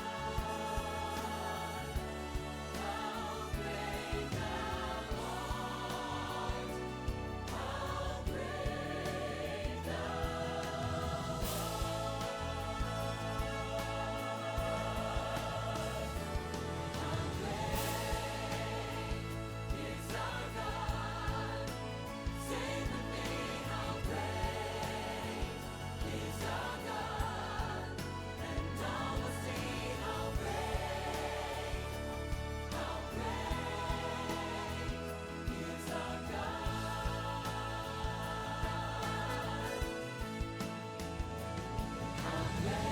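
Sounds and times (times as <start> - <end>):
choir singing: 0.0 - 42.9
instrumental accompaniment: 0.0 - 42.9.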